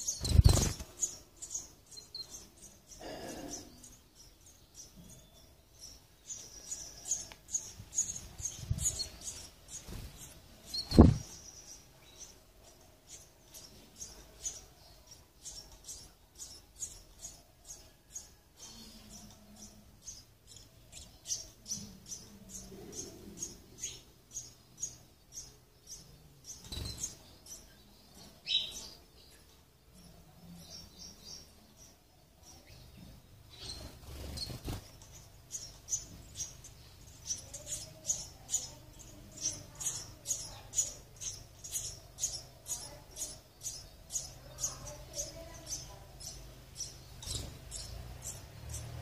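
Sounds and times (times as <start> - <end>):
sparrows chirping rapidly: 0.0 - 49.0.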